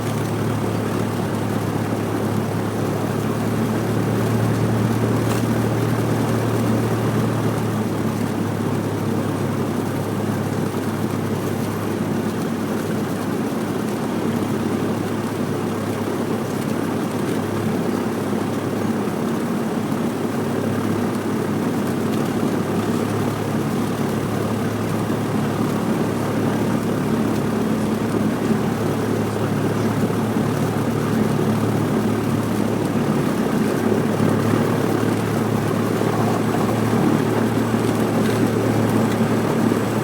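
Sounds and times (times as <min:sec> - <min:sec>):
propeller plane engine drone: 0:00.0 - 0:40.0.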